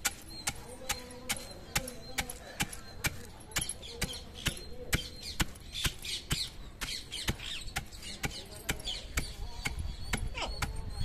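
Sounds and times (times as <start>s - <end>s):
birds chirping: 0.0s - 11.0s
pestle pounding in stone mortar: 0.0s - 11.0s.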